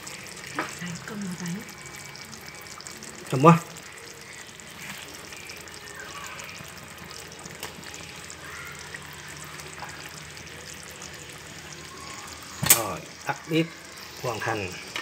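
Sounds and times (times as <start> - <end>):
sauce sizzling and bubbling: 0.0 - 15.0.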